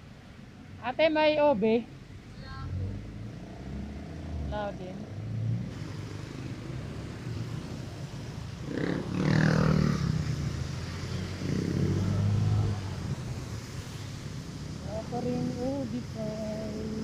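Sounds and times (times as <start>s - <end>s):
vehicle engines passing: 0.0s - 17.0s.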